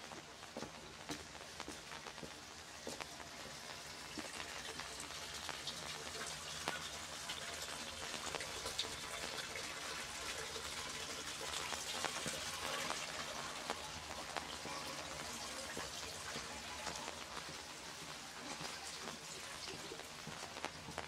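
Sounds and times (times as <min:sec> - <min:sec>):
rain on wet pavement: 0:00.0 - 0:21.0.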